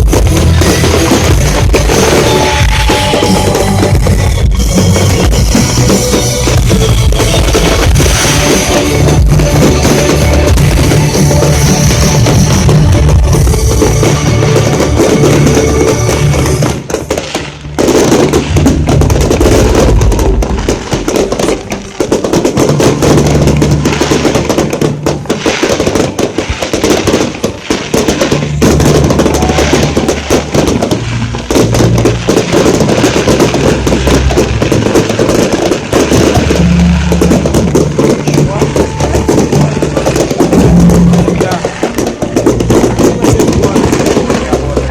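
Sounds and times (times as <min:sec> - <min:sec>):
fireworks banging and crackling: 0:00.0 - 0:44.9
loud music with heavy bass: 0:00.0 - 0:44.9.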